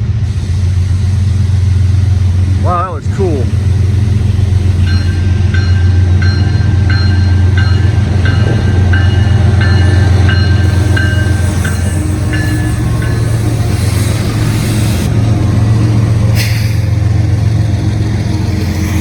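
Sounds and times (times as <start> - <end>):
diesel train rumbling past: 0.0 - 19.0
railroad crossing bell ringing: 0.2 - 19.0.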